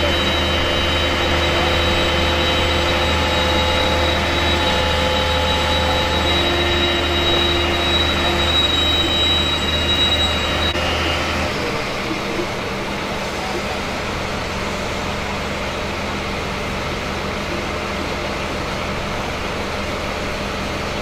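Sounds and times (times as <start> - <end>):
machinery drone with whining: 0.0 - 21.0.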